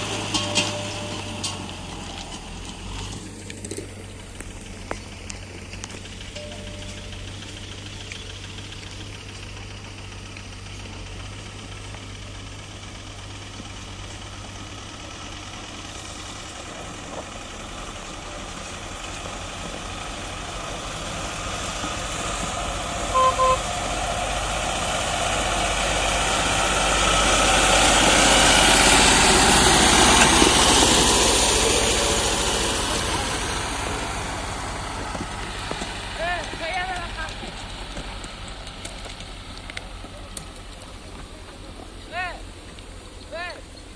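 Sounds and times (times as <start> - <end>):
tractor diesel engine passing: 0.0 - 43.9.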